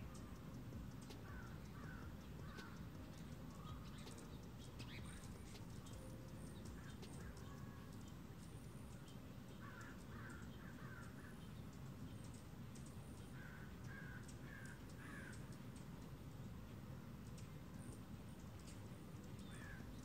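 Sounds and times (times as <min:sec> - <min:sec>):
faint high ticks: 0:00.0 - 0:20.0.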